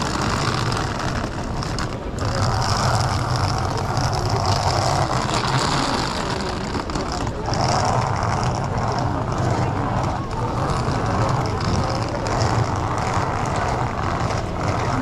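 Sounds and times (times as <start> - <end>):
traffic on rainy street: 0.0 - 15.0.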